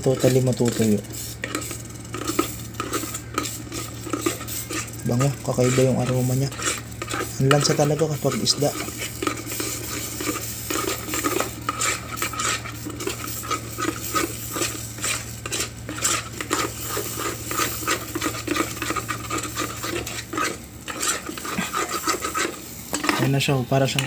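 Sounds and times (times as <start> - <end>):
light sizzle: 0.0 - 24.0
steady low hum: 0.0 - 24.0
wooden spoon scraping a pot: 0.0 - 24.0.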